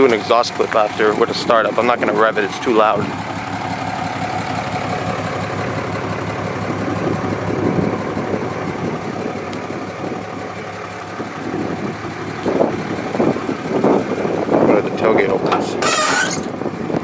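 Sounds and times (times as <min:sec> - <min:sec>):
diesel truck idling: 0:00.0 - 0:17.0.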